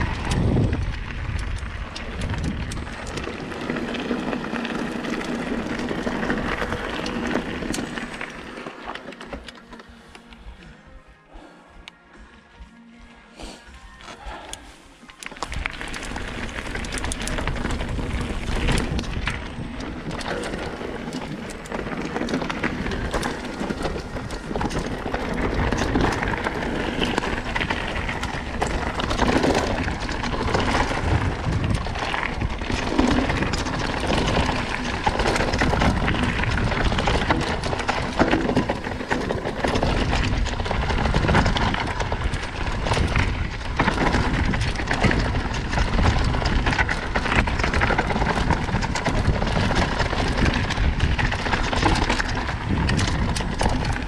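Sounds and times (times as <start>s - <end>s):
wind rumble on microphone: 0.0s - 8.6s, 15.3s - 54.0s
bike knocking and rattling: 0.0s - 10.7s, 14.0s - 54.0s
bike tyres crunching over stones: 0.0s - 10.8s, 13.4s - 54.0s.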